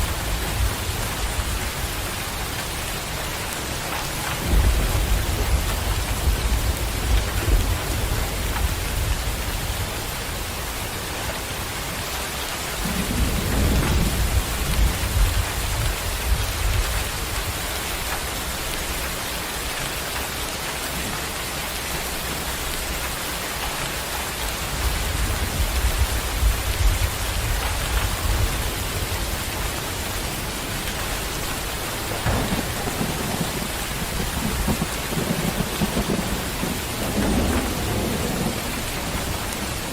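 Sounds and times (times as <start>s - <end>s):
low rolling thunder: 0.0s - 11.6s, 12.7s - 19.0s, 24.4s - 39.9s
steady rain: 0.0s - 39.9s.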